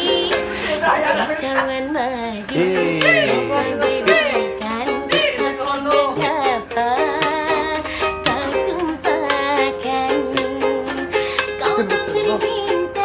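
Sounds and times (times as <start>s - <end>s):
person singing: 0.0s - 13.0s
strummed plucked-string instrument: 0.0s - 13.0s
sliding wavering melody line: 2.4s - 13.0s.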